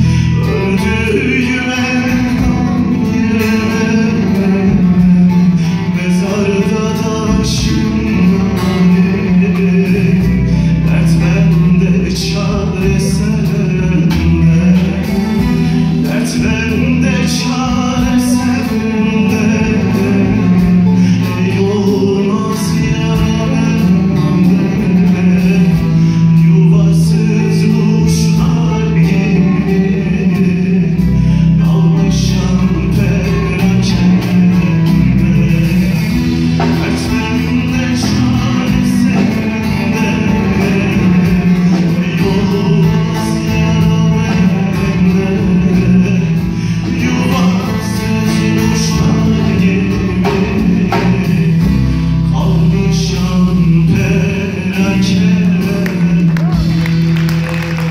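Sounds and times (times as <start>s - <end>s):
bass guitar: 0.0s - 57.9s
man singing: 0.0s - 57.9s.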